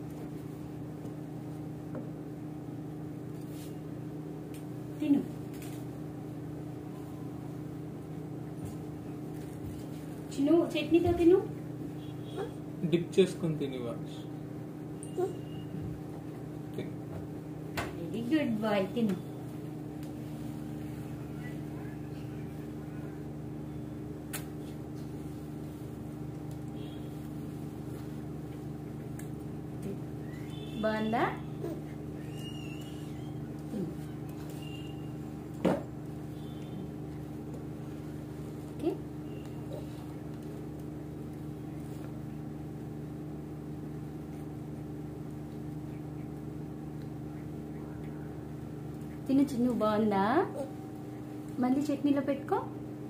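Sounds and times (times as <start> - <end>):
appliance humming: 0.0 - 53.0.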